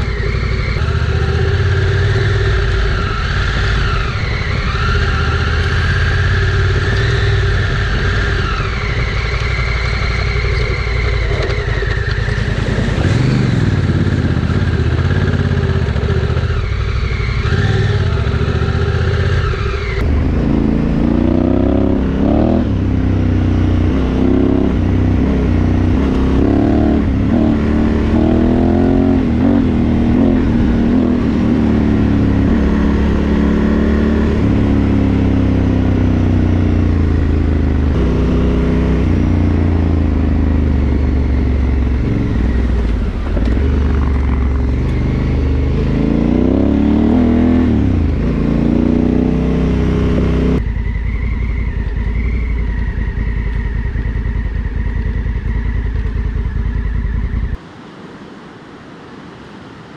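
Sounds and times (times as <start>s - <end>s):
motorcycle engine revving: 0.0s - 57.6s
road and wind noise: 0.0s - 59.9s.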